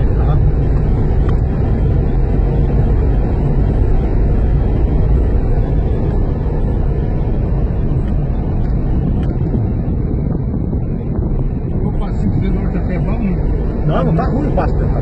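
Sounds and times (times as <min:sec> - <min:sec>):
vehicle low rumble: 0:00.0 - 0:15.0.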